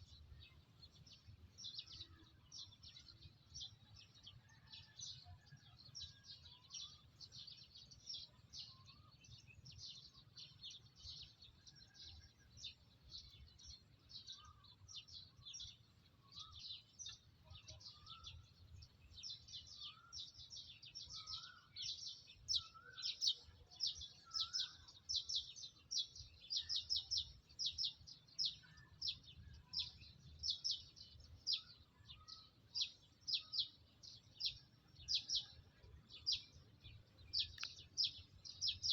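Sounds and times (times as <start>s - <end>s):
fainter lower bird calls: 1.6s - 38.9s.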